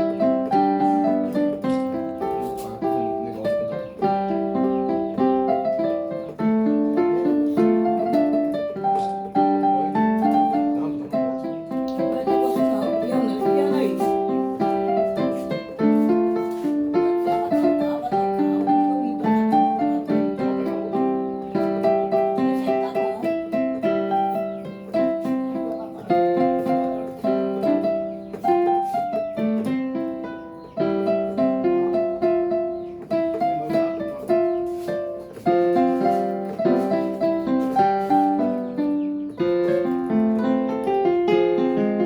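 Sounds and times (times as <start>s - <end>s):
piano melody: 0.0s - 42.0s.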